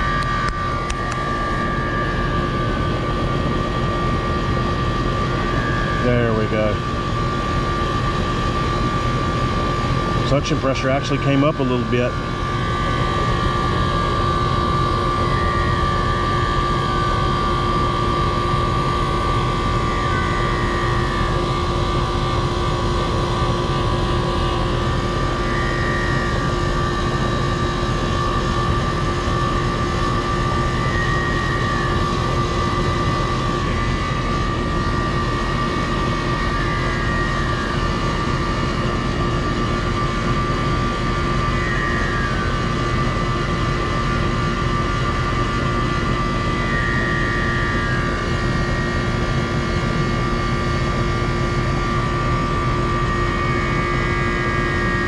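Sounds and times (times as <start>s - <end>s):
compressor whine: 0.0s - 55.0s
condenser fan noise: 0.0s - 55.0s.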